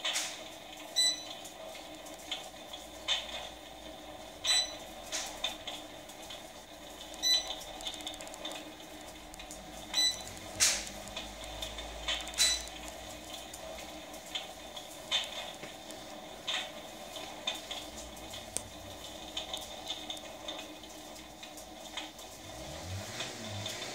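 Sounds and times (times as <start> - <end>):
electronic fire crackling: 0.0 - 23.9.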